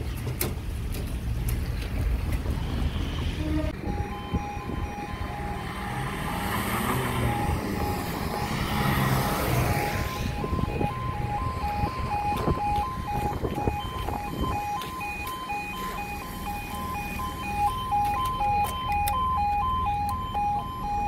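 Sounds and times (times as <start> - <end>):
level crossing alarm two tones: 3.7 - 21.0.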